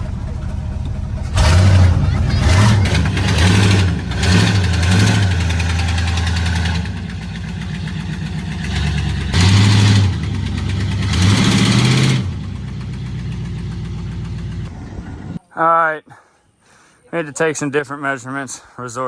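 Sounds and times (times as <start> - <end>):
vehicle engine idling and revving: 0.0 - 15.4.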